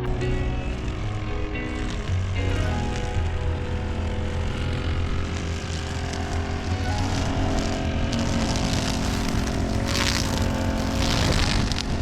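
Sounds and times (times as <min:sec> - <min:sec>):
engine running: 0:00.0 - 0:12.0
rushing bursts of noise: 0:00.0 - 0:12.0.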